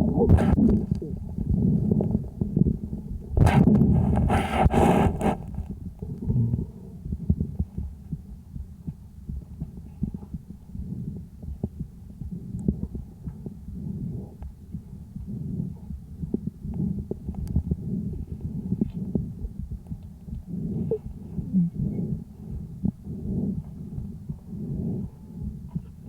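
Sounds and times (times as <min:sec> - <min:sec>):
muffled breath sounds: 0:00.0 - 0:26.0.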